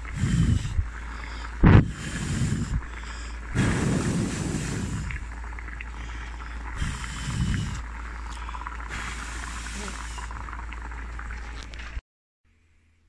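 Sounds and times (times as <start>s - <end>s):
low rumble: 0.0s - 11.6s
water boiling in a skillet: 0.0s - 12.0s.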